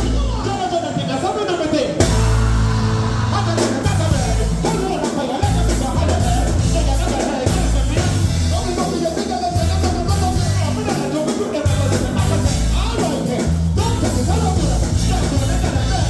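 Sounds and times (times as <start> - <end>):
reggae music with heavy bass: 0.0 - 16.0
person singing: 2.0 - 16.0.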